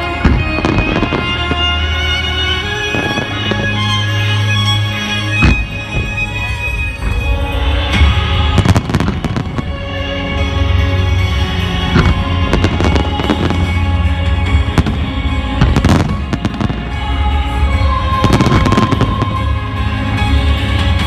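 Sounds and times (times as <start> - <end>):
fireworks bursting and crackling: 0.0 - 4.2, 5.3 - 19.6
loud music with held notes: 0.0 - 21.0.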